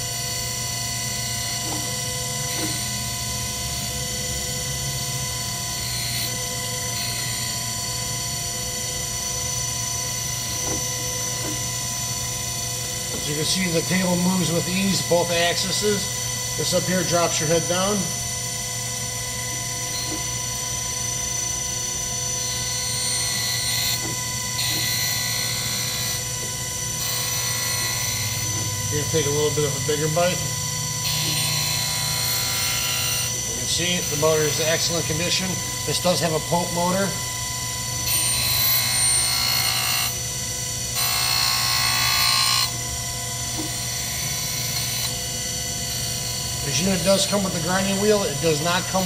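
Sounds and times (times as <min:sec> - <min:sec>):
grinder motor hum and whine: 0:00.0 - 0:49.0.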